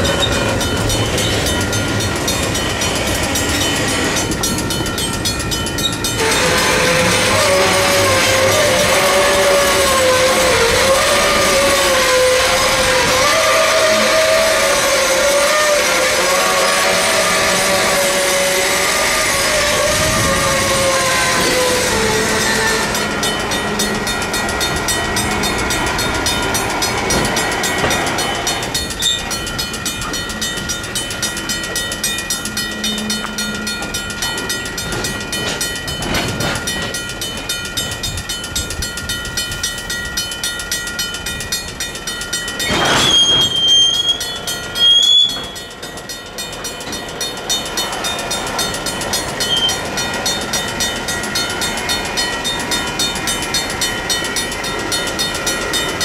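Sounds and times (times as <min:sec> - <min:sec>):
high metallic squeal: 0:00.0 - 0:37.0, 0:42.3 - 0:56.0
railroad crossing bells ringing: 0:00.0 - 0:56.0
train cars rolling: 0:00.0 - 0:56.0.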